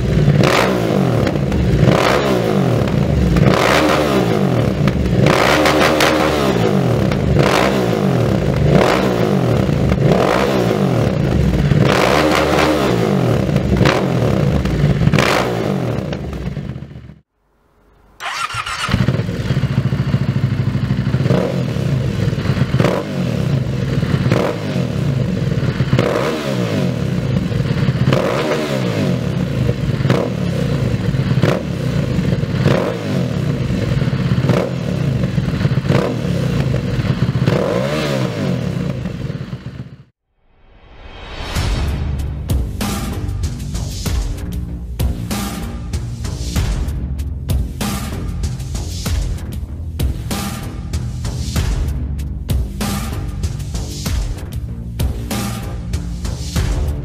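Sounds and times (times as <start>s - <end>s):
motorcycle engine revving: 0.0s - 17.3s, 18.2s - 40.2s, 42.3s - 57.0s.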